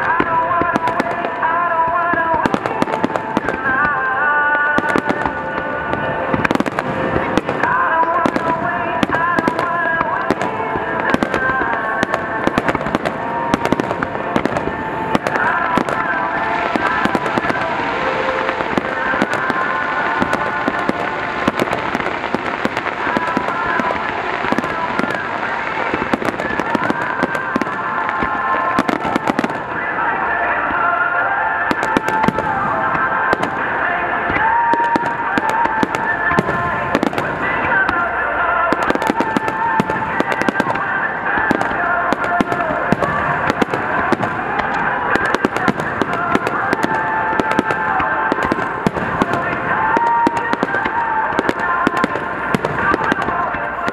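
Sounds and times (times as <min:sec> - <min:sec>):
firework bangs and crackles: 0:00.0 - 0:53.9.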